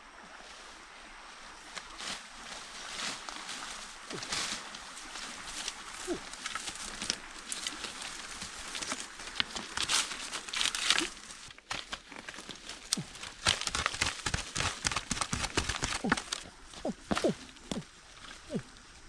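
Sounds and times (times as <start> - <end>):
rustling and crinkling handling: 1.6 - 19.0.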